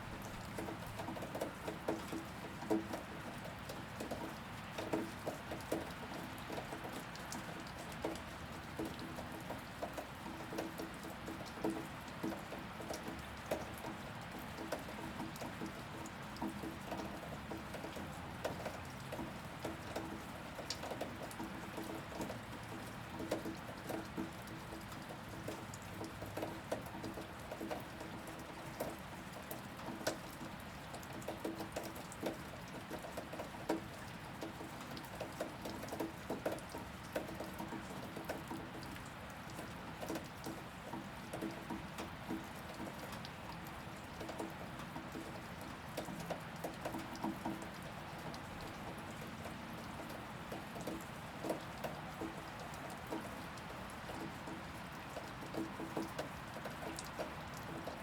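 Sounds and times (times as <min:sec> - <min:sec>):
heavy rain drops striking a surface: 0:00.0 - 0:58.0.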